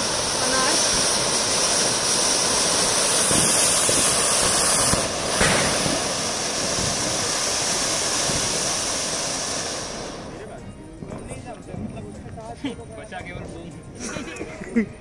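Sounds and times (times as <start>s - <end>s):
fountain fireworks hissing: 0.0s - 14.9s.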